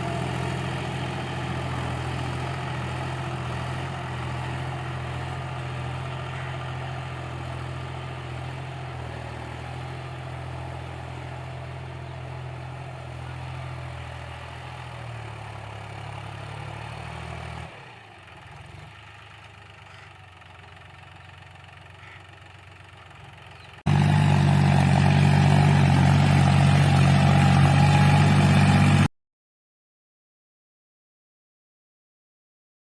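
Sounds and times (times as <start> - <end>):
tractor diesel engine running: 0.0 - 29.1.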